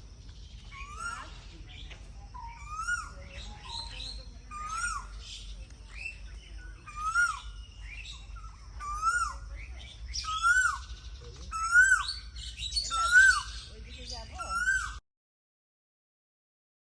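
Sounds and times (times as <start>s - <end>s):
birds chirping high: 0.0s - 15.0s.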